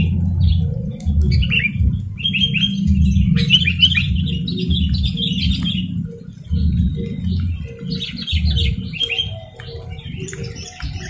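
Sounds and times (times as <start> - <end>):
birds chirping: 0.0 - 11.0
low pulsing rumble: 0.0 - 11.0.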